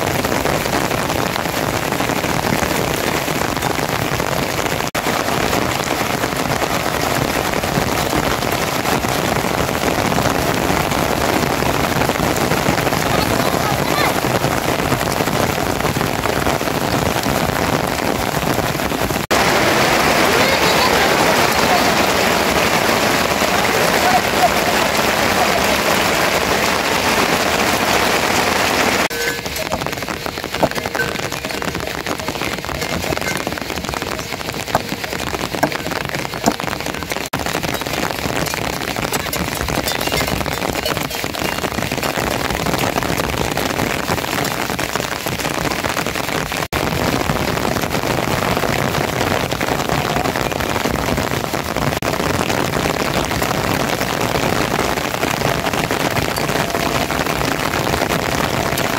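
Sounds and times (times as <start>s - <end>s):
steady rain hissing: 0.0s - 58.9s.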